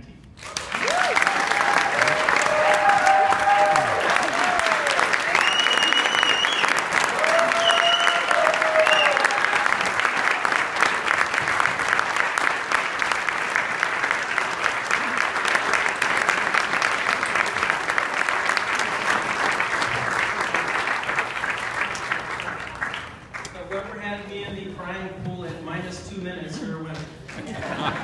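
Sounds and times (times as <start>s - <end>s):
audience applauding: 0.4s - 23.6s, 27.3s - 28.0s.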